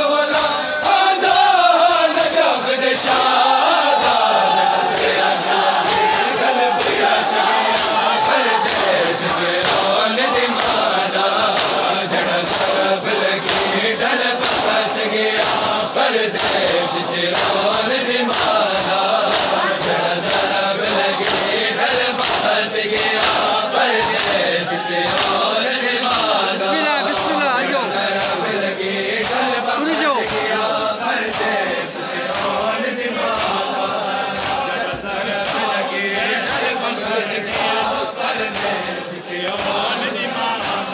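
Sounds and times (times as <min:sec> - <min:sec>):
men chanting in unison: 0:00.0 - 0:40.9
hands slapping chests: 0:03.9 - 0:40.9.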